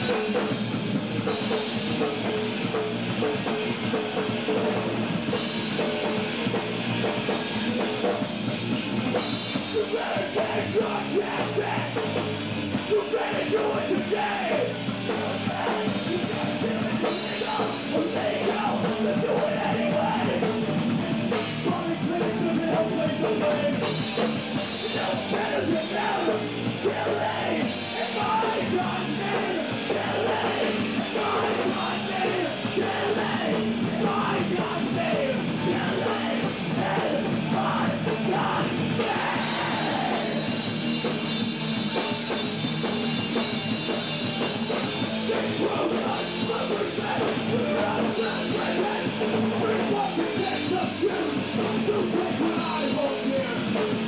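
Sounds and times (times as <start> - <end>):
loud distorted rock band: 0.0 - 54.0
vocals over band: 0.0 - 54.0.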